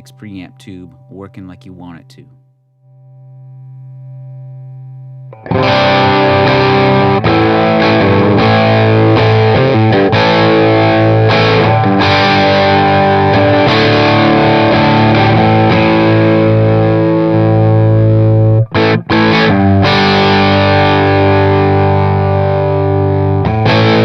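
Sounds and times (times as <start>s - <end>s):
distorted electric guitar chords: 2.8s - 24.0s.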